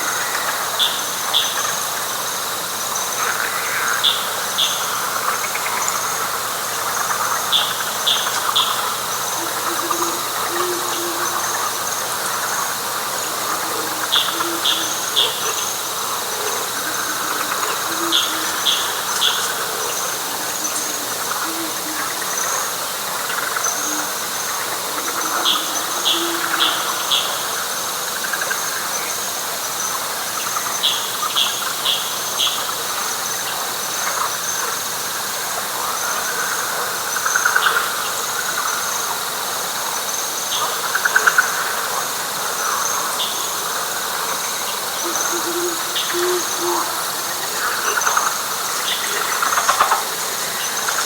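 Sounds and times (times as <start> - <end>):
frog chorus: 0.0 - 51.0
high insect trill: 0.0 - 51.0.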